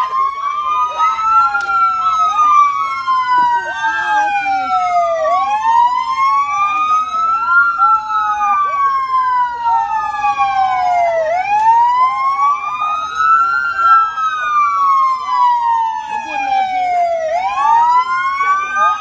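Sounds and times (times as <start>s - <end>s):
police sirens wailing: 0.0s - 19.0s.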